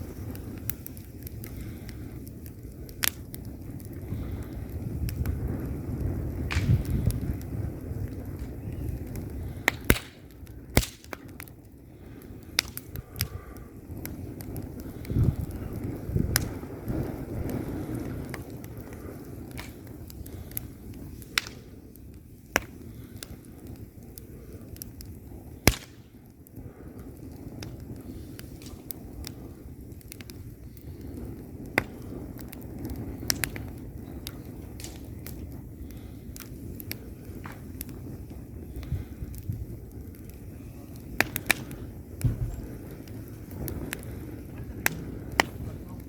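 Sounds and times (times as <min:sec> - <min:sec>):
fire rumbling: 0:00.0 - 0:46.0
wood crackling and popping: 0:00.0 - 0:46.0.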